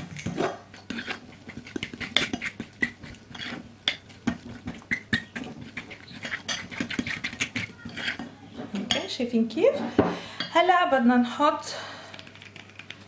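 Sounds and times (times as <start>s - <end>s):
spoon stirring dough in glass bowl: 0.0s - 10.5s.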